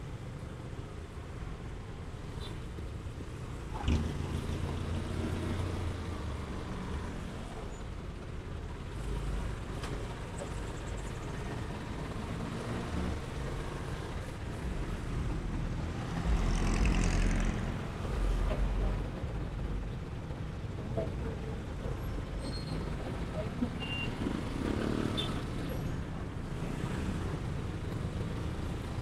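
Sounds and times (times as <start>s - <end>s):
hum of traffic engines: 0.0s - 29.0s.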